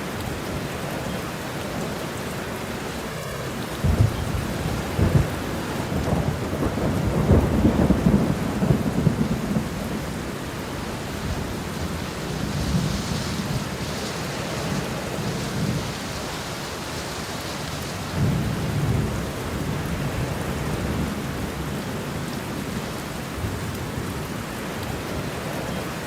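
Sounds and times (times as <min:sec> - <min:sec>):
heavy rain: 0:00.0 - 0:26.0
distant rolling thunder: 0:00.1 - 0:16.4, 0:18.0 - 0:26.0.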